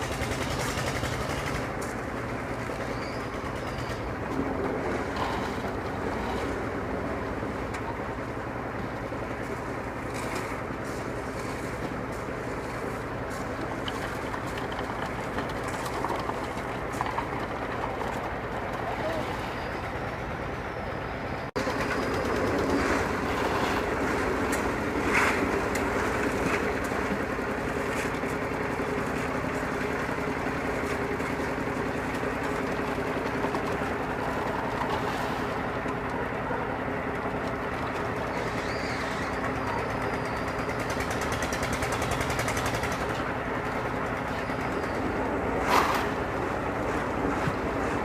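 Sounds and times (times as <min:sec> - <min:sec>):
machinery engine running: 0:00.0 - 0:48.0.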